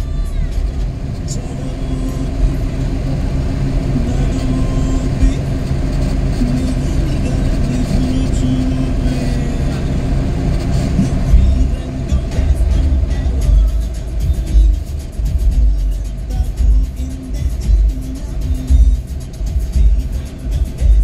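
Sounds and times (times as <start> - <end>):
music playing: 0.0 - 21.0
vehicle engine and tyres rumbling: 0.0 - 21.0.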